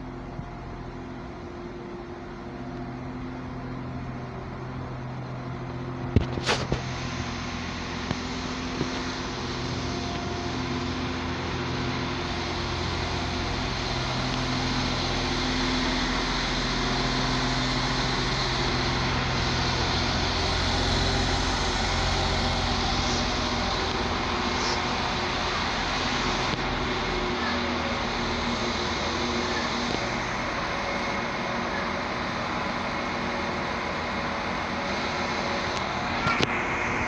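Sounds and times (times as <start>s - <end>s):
diesel train engines running: 0.0s - 37.0s.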